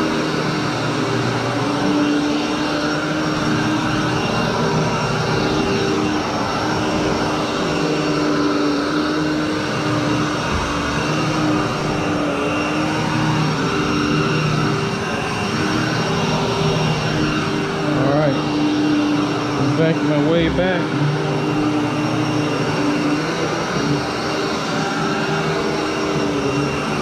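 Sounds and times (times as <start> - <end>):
upright vacuum cleaner running: 0.0 - 27.0.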